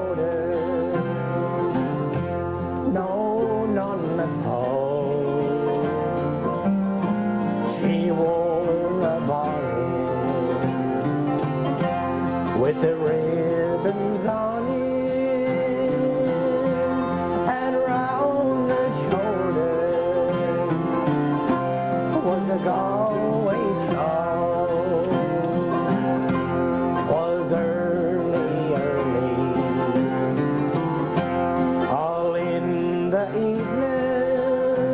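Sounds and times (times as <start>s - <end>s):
acoustic guitars: 0.0s - 34.9s
man singing: 0.0s - 34.9s.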